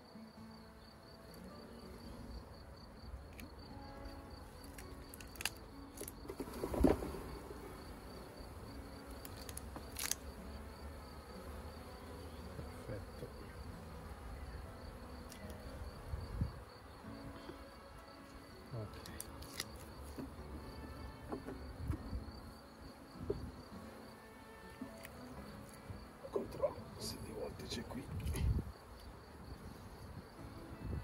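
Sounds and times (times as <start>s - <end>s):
bees buzzing: 0.5s - 28.0s.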